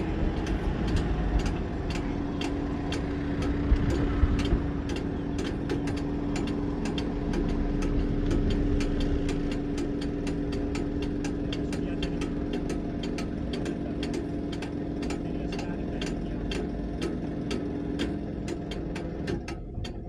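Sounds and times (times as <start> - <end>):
steady motor hum: 0.0 - 20.0.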